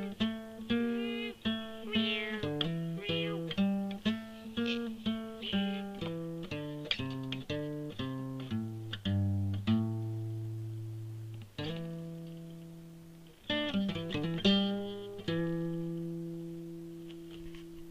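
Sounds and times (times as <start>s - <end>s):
guitar playing: 0.0s - 16.6s.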